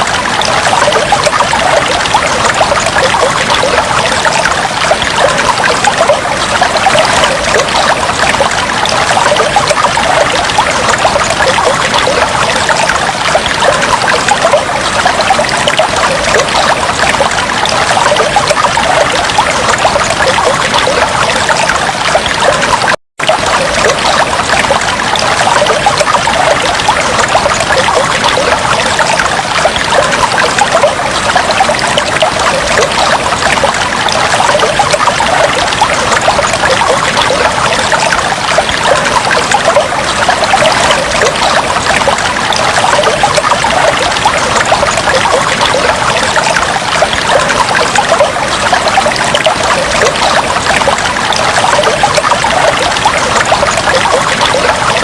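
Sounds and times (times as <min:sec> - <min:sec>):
fish tank water trickling and bubbling: 0:00.0 - 0:55.0.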